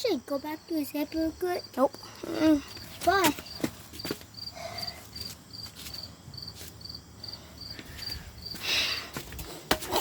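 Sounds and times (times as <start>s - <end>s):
insect chirping: 0.0s - 9.2s.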